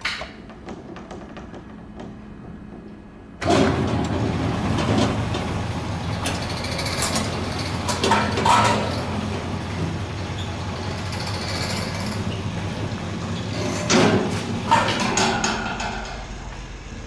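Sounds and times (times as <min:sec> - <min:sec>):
machine clattering: 0:00.4 - 0:16.6.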